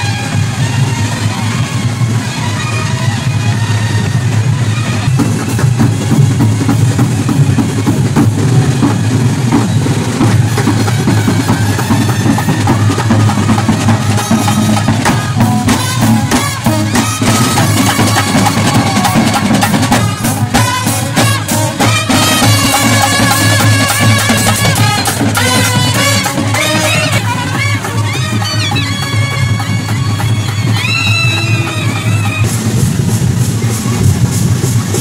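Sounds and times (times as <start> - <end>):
bass drum and snare drum beating: 0.0 - 35.0
trumpets and euphonium melody: 0.0 - 35.0.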